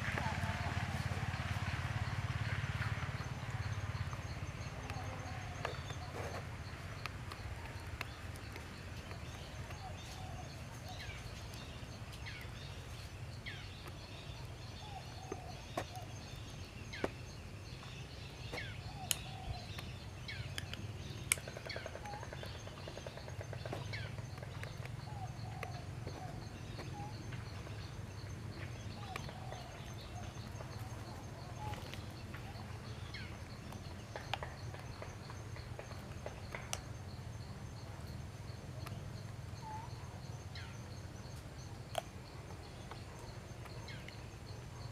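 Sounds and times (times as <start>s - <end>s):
bird chirps: 0.0s - 44.9s.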